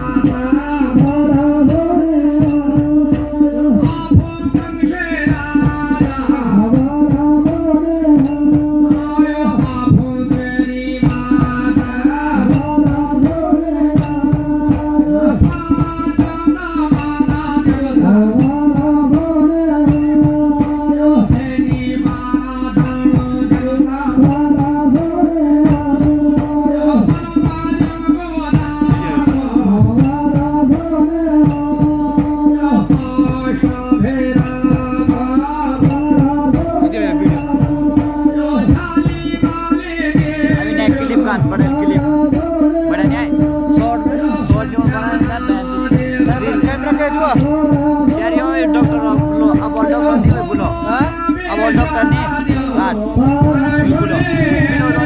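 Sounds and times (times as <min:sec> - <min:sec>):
barrel drum beating: 0:00.0 - 0:55.0.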